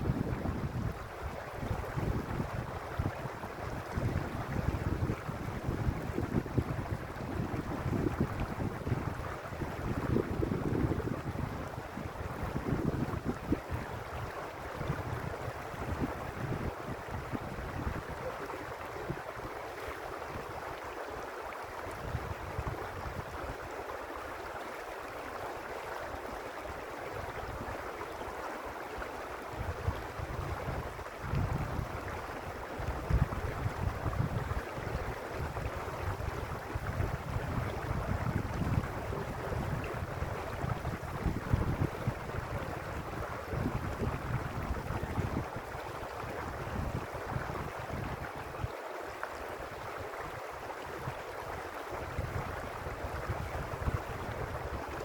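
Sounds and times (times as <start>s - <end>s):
wind buffeting microphone: 0.0s - 19.5s, 21.8s - 23.7s, 29.5s - 48.7s, 49.7s - 55.0s
creek rushing over stones: 0.0s - 55.0s.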